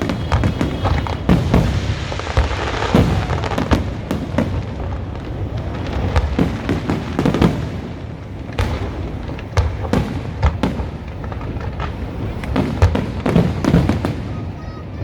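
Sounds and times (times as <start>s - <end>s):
fireworks bangs and booms: 0.0s - 15.0s
fireworks crackling hiss: 0.0s - 15.0s.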